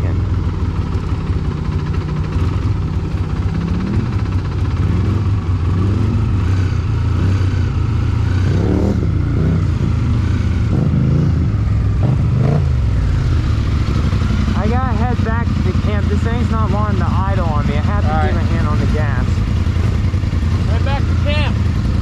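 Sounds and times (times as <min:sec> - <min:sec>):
vehicle engine revving: 0:00.0 - 0:22.0.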